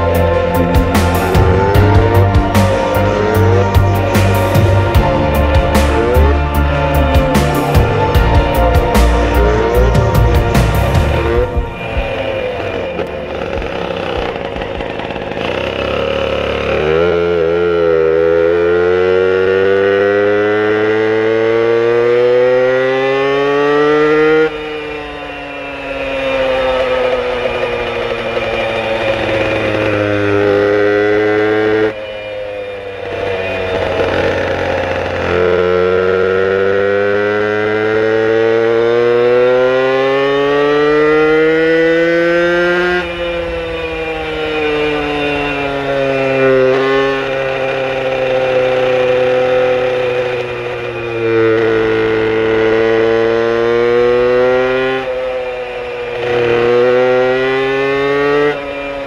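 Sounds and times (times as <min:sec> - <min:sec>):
moped engine accelerating: 0:00.0 - 0:59.0.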